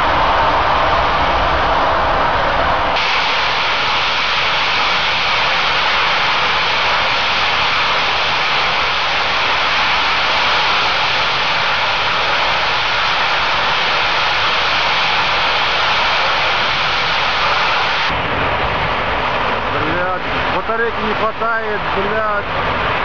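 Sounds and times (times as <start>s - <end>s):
gas escaping with loud hissing rush: 0.0s - 23.0s.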